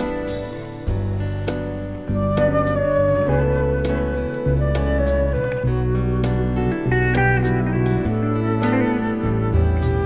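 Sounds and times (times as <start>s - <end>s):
drums: 0.0s - 10.0s
electric bass: 0.0s - 10.0s.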